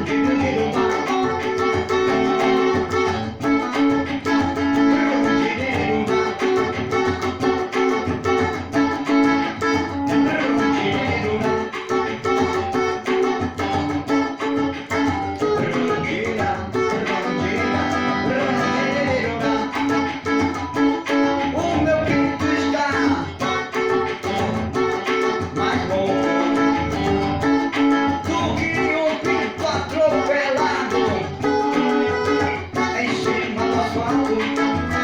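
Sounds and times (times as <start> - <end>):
guitar plucked and strummed: 0.0 - 35.0.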